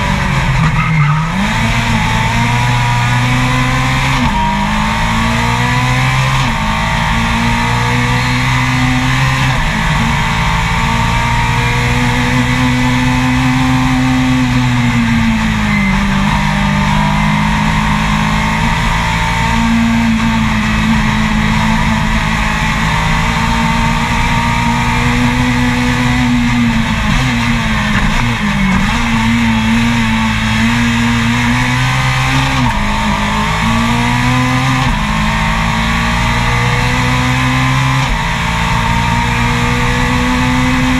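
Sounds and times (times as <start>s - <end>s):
racing car engine at full throttle: 0.0s - 40.9s.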